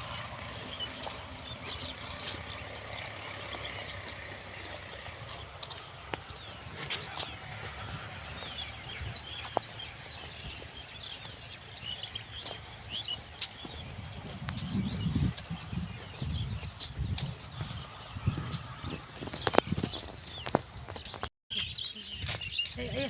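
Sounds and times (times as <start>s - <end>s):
low rumbles: 0.0s - 21.1s
birds chirping: 0.0s - 23.0s.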